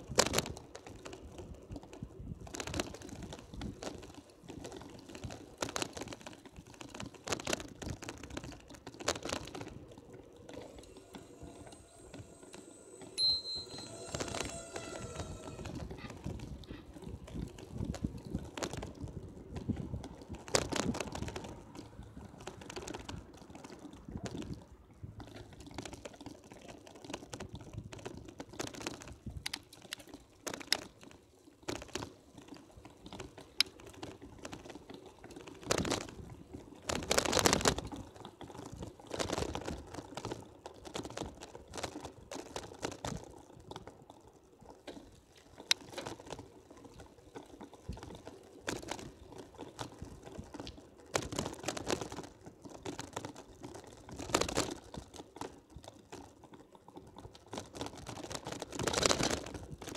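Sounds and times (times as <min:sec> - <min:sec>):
bicycle bumps: 0:00.0 - 0:59.9
bicycle clicking and rattling: 0:00.0 - 0:59.9.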